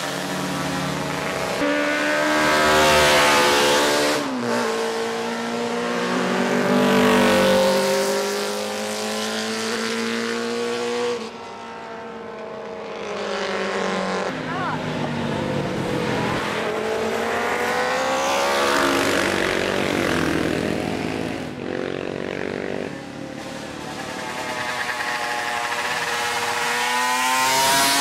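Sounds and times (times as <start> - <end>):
motorcycles passing at speed: 0.0 - 28.0.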